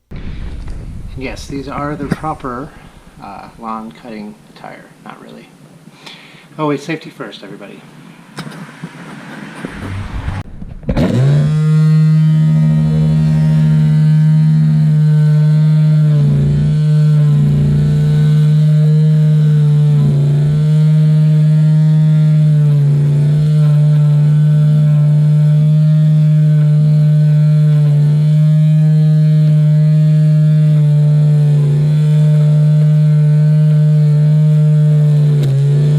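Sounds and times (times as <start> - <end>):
lawn mower engine droning: 0.0 - 4.5, 8.2 - 35.9.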